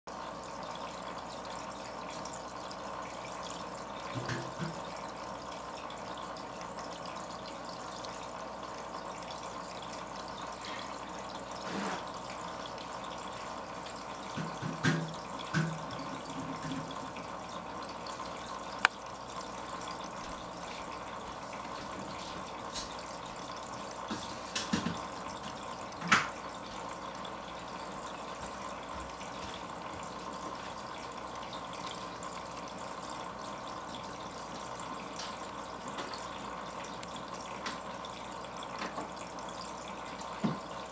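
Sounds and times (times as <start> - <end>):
trickle of running water: 0.1 - 40.9.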